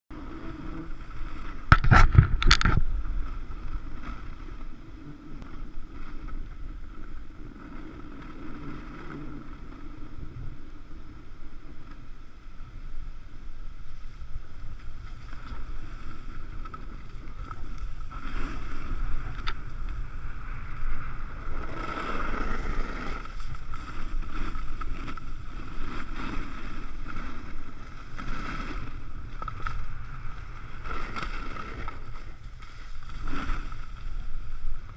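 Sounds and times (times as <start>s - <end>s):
skis sliding over snow: 0.1s - 34.9s
wind rushing over microphone: 0.1s - 34.9s.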